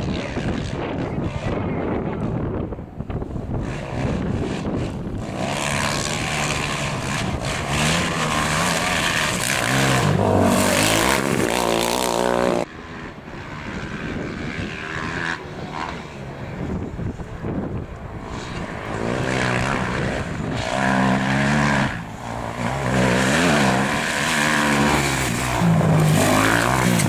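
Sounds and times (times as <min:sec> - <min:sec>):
rally car engine accelerating: 0:00.0 - 0:27.0.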